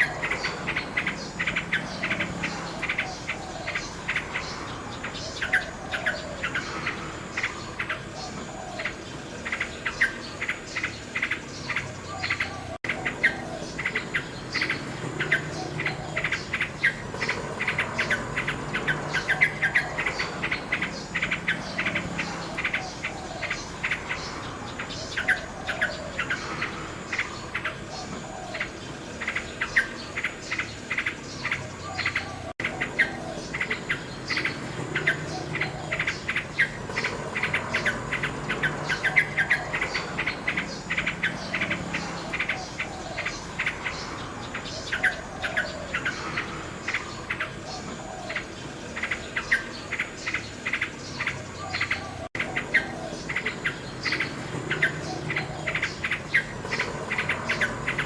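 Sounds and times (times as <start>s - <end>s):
crickets chirping: 0.0s - 58.0s
nightingale singing: 0.0s - 58.0s.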